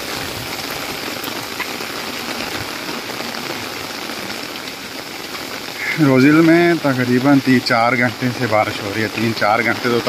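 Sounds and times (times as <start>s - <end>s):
heavy rain on a street: 0.0s - 10.0s.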